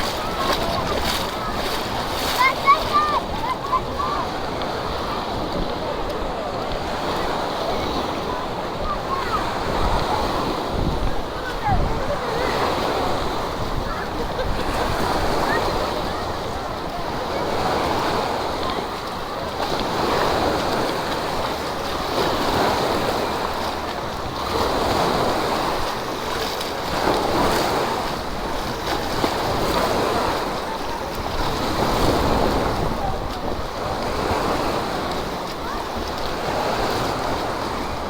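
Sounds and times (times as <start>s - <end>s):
faint voices: 0.0s - 38.0s
rushing splashing water: 0.0s - 38.0s.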